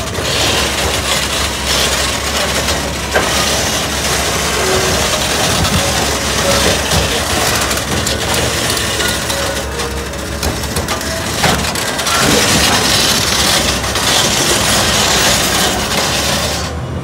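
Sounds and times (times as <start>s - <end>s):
diesel engine low hum: 0.0s - 17.0s
track chains clanking and grinding: 0.0s - 17.0s.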